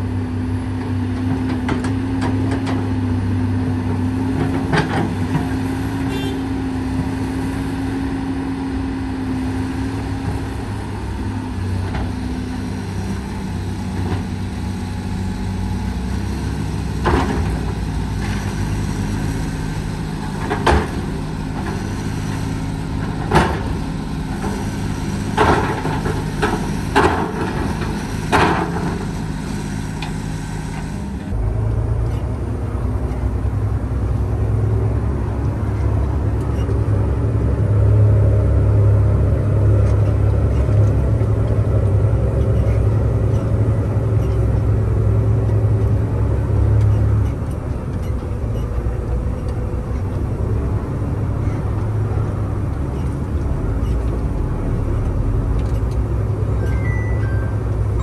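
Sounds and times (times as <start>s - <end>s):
diesel machinery engines running: 0.0s - 58.0s.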